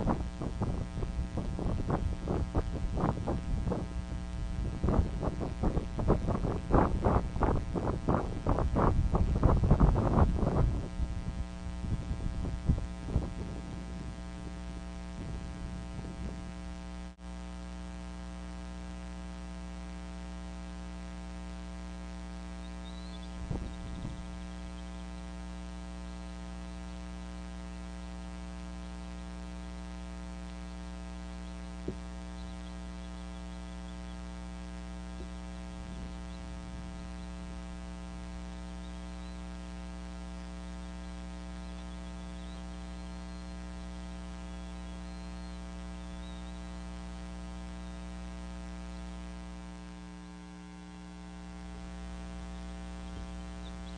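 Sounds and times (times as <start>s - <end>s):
steady electrical hum: 0.0s - 53.9s.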